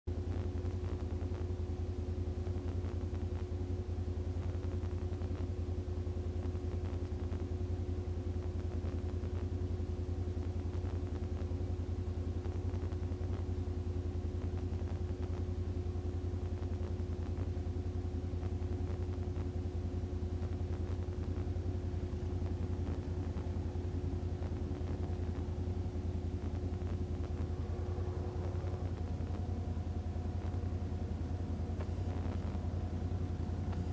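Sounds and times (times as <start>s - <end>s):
atv engine idling: 0.2s - 33.9s.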